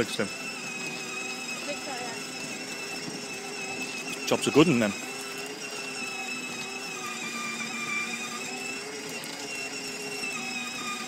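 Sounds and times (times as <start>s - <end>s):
toy car electric motor whine: 0.0s - 11.0s.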